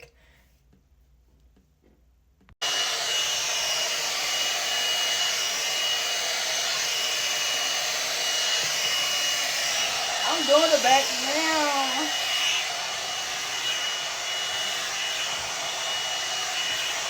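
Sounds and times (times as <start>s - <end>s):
hair dryer blowing with high whine: 2.6s - 17.0s.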